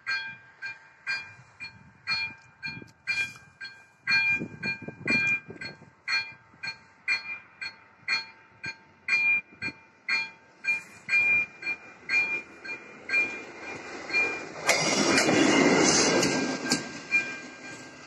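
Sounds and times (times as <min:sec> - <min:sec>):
diesel railbus passing: 0:00.0 - 0:18.0
level-crossing warning bell ringing: 0:00.0 - 0:18.0.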